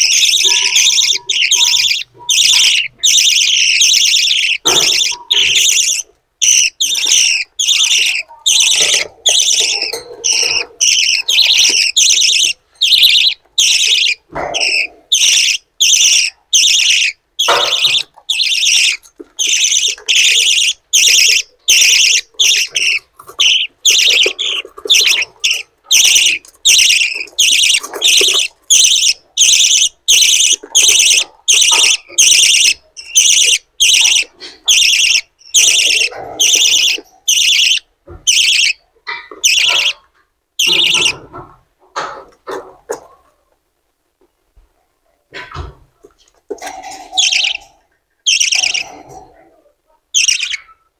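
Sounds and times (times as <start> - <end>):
chicks begging with buzzy calls: 0.0 - 41.3, 46.6 - 50.9.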